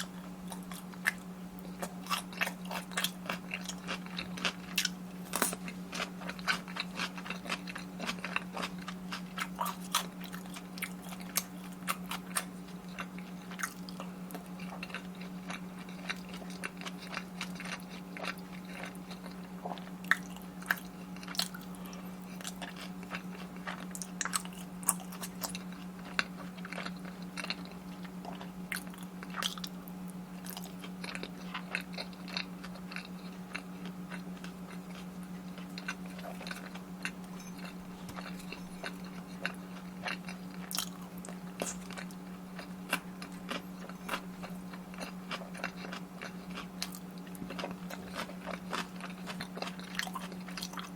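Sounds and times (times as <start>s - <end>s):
chewing with crisp crunches: 0.0s - 50.9s
steady low hum: 0.0s - 50.9s.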